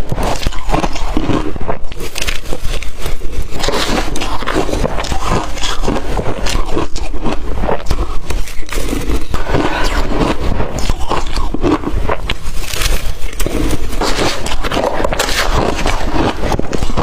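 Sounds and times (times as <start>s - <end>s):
crunching crushed ice: 0.0s - 17.0s.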